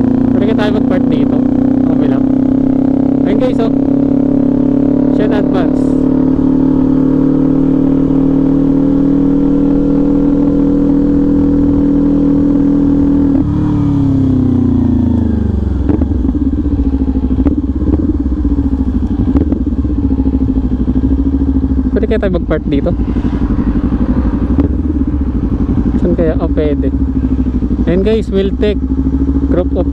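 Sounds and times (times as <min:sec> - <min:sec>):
low-rev motorcycle burble: 0:00.0 - 0:29.9
motorcycle engine revving: 0:00.0 - 0:29.9.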